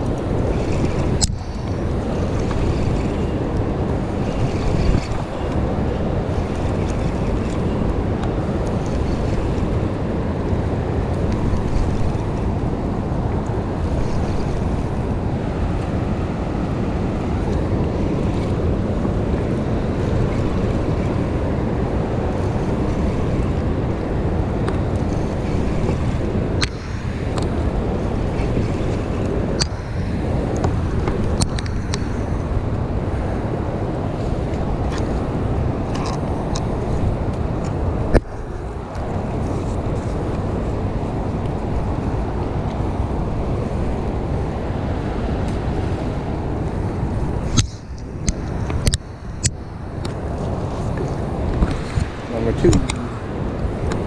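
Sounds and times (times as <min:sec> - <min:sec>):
choppy river water rushing: 0:00.0 - 0:54.0
wind buffeting the microphone: 0:00.0 - 0:54.0.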